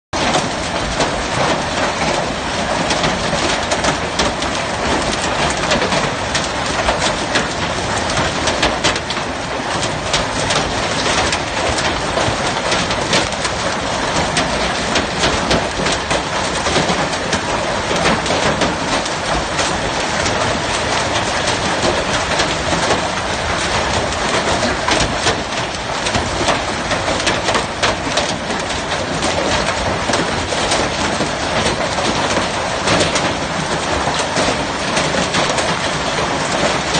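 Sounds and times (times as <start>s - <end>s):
hailstones clattering on cars: 0.2s - 36.9s.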